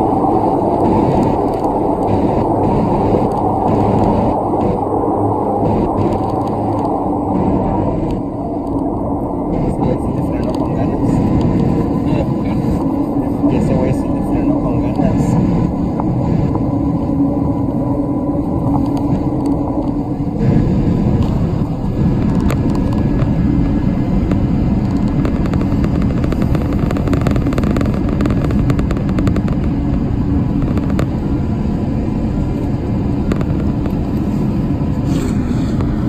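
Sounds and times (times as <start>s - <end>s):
turboprop engine drone in cabin: 0.0s - 36.0s.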